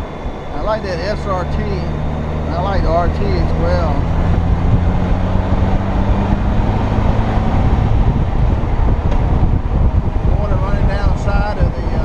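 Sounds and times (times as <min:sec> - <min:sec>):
motorcycle engine hum: 0:00.0 - 0:12.0
wind rushing over microphone: 0:00.0 - 0:12.0.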